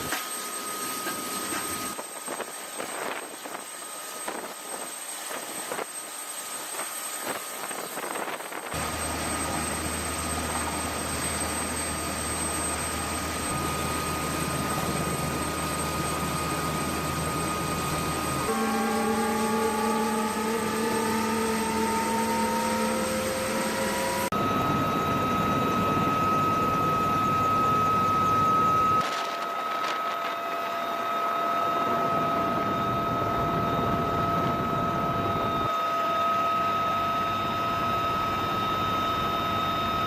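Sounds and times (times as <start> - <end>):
helicopter turbine and rotor: 0.0 - 40.0.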